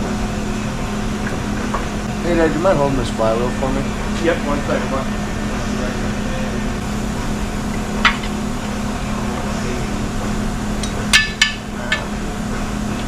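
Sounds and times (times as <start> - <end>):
low shop hum: 0.0 - 13.0.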